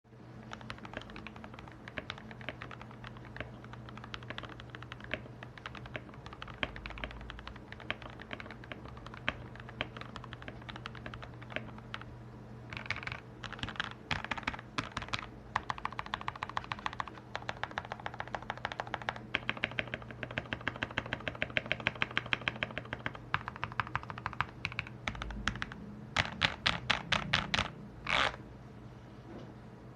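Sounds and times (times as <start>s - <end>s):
mechanical keyboard typing: 0.4s - 12.1s, 12.7s - 28.4s.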